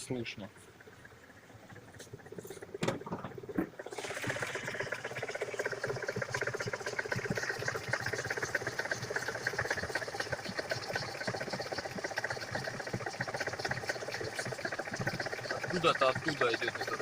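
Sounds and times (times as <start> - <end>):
car engine idling: 0.0 - 17.0
engine knocking: 0.0 - 17.0.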